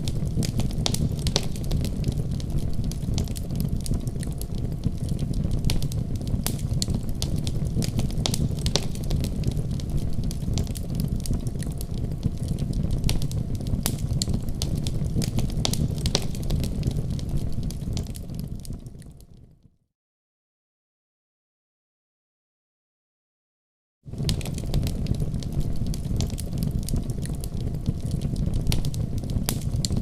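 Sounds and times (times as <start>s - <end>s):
wood fire crackling: 0.0s - 19.5s, 24.1s - 30.0s.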